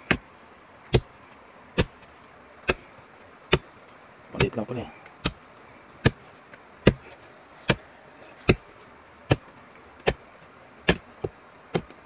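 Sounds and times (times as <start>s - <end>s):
blade chopping tree roots: 0.0s - 12.0s.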